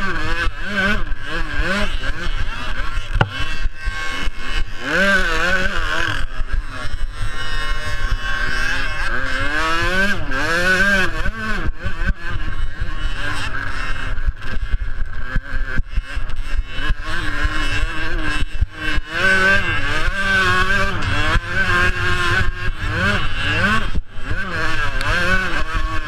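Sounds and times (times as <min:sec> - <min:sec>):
motocross bikes revving: 0:00.0 - 0:26.0.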